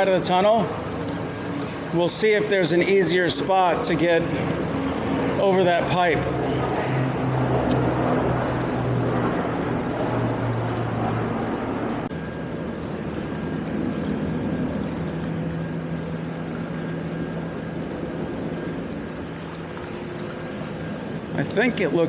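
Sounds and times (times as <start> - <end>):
mechanical drone with low hum: 0.0 - 22.0.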